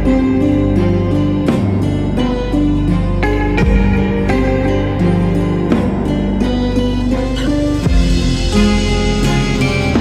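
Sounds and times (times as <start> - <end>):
gentle plucked-string music: 0.0 - 10.0.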